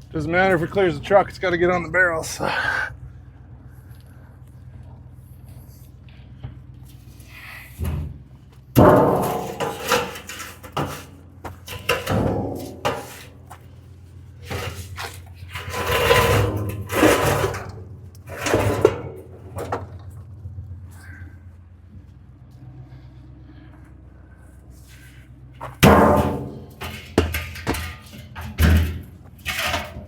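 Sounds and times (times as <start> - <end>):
tow truck engine running: 0.0 - 30.0
clunks creaks and scrapes: 3.4 - 30.0.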